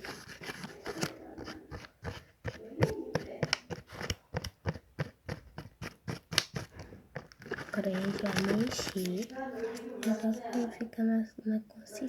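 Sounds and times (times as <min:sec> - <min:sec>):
utensil scraping inside a cup: 0:00.0 - 0:10.8.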